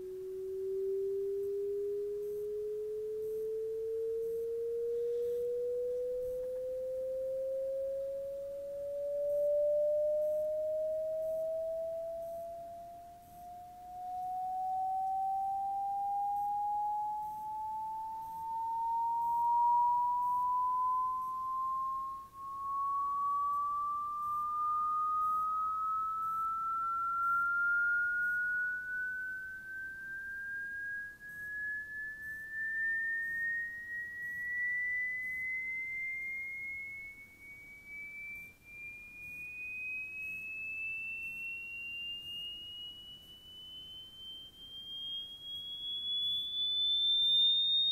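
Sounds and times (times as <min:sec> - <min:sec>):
sine tone rising in pitch: 0:00.0 - 0:47.9.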